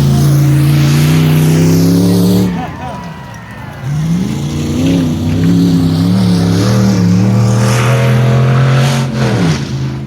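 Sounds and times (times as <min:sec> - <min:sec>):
pickup truck engine racing: 0:00.0 - 0:10.0.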